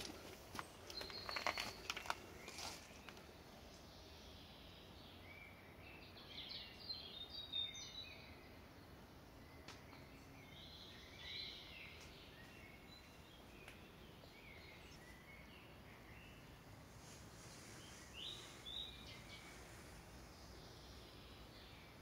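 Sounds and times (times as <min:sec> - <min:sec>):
high chirping birdsong: 0:00.0 - 0:22.0
steady outdoor hiss: 0:00.0 - 0:22.0.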